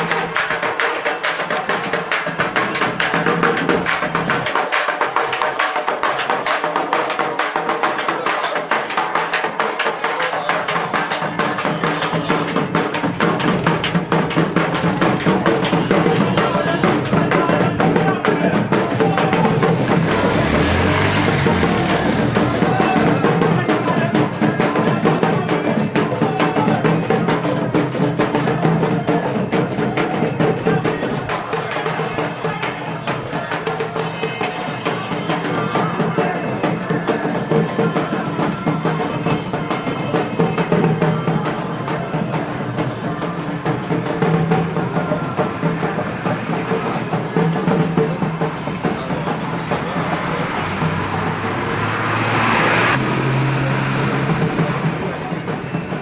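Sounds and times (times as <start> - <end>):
fast hand-drum rhythm: 0.0 - 51.8.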